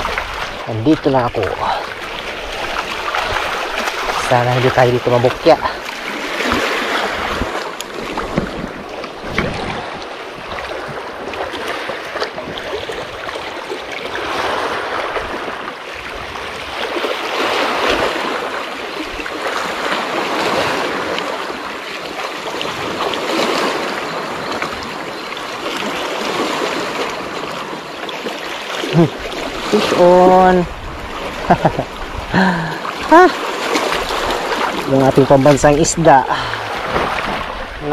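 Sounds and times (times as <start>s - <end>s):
waves lapping over rocks: 0.0s - 37.9s.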